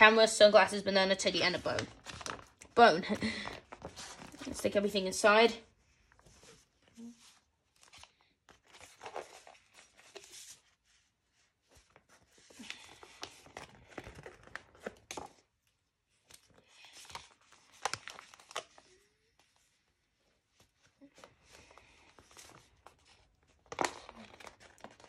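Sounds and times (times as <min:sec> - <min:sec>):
paper sticker sheets crinkling: 0:01.3 - 0:05.0, 0:06.2 - 0:15.4, 0:16.2 - 0:19.6, 0:21.1 - 0:25.0.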